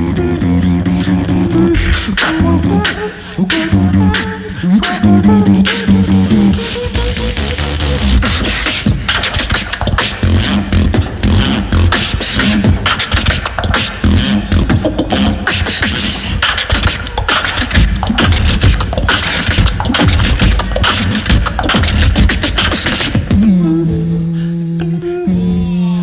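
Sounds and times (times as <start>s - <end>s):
human beatboxing: 0.0s - 26.0s.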